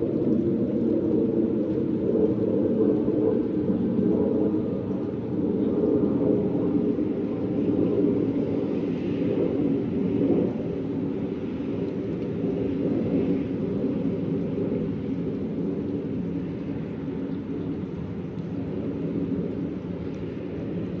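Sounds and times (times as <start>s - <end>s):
low rumble of outdoor ambience: 0.0s - 21.0s.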